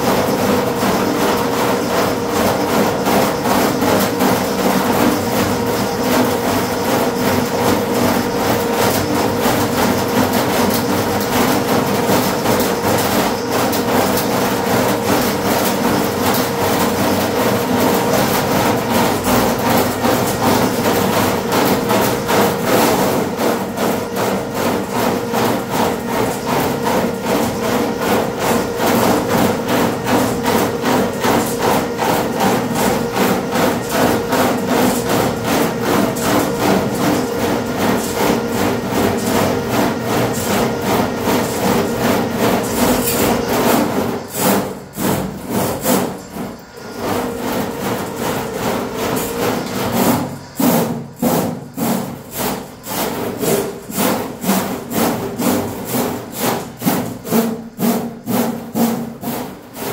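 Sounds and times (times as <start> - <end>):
spinning cable rattling in drain: 0.0 - 59.9.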